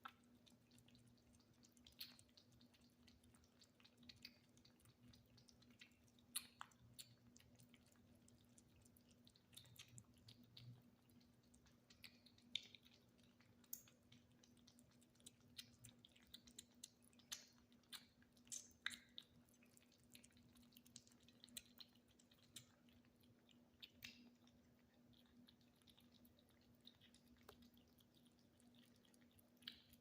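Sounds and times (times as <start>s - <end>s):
kittens chewing: 0.0s - 30.0s.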